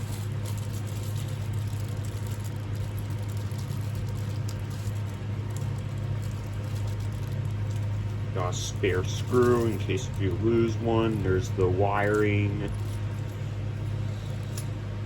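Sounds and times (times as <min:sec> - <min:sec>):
small parts clicking and rustling: 0:00.0 - 0:14.8
steady low hum: 0:00.0 - 0:15.0.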